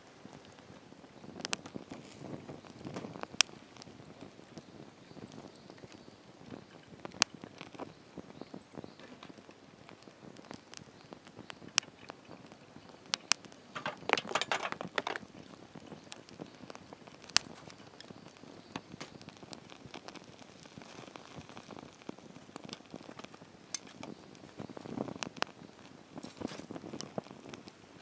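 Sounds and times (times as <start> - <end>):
campfire crackling and popping: 0.0 - 28.0
pot boiling: 0.0 - 28.0.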